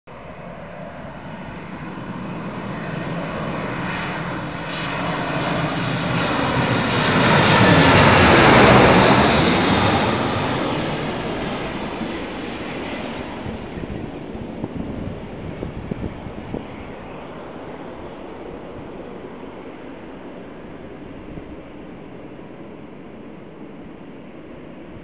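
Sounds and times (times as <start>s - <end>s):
jet airliner passing: 0.1s - 25.0s.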